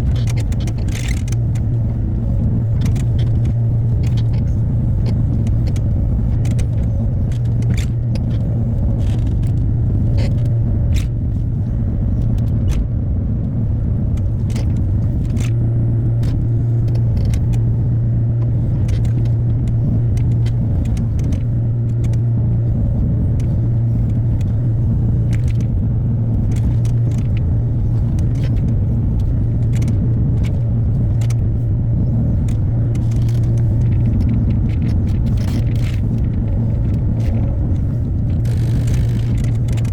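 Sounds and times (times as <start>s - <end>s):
excavator diesel engine humming: 0.0s - 39.9s
sharp clicks and knocks: 0.0s - 39.9s.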